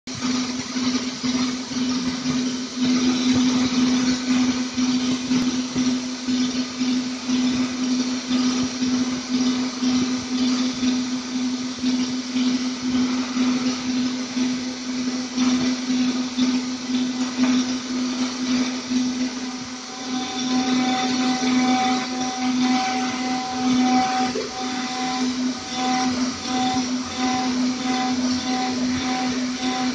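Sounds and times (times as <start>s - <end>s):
harsh metal cutting noise: 0.1s - 29.9s
router spindle hum: 0.1s - 29.9s.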